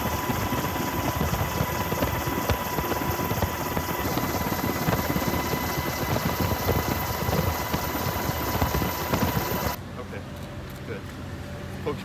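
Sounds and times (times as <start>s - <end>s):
aircraft rotor and engine noise: 0.0s - 12.0s.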